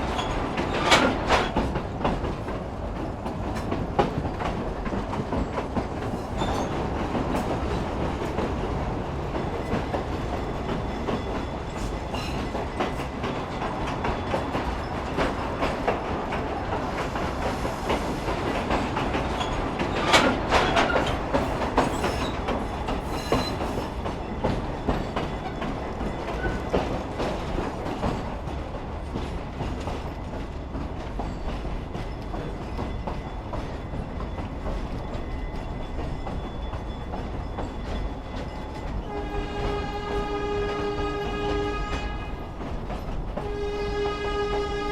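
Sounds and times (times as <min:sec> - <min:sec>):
wheels clicking over rail joints: 0:00.0 - 0:17.1, 0:18.4 - 0:40.5
railroad car rumbling: 0:00.0 - 0:44.9.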